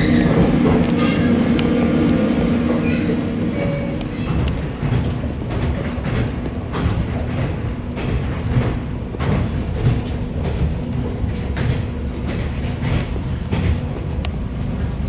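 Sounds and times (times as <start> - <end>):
train running rumble: 0.0 - 15.0
train wheels clacking: 0.0 - 15.0.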